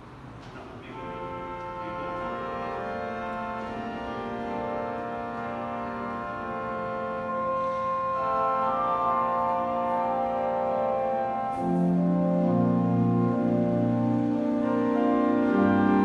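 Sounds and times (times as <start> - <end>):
pipe organ chords: 0.6 - 16.0.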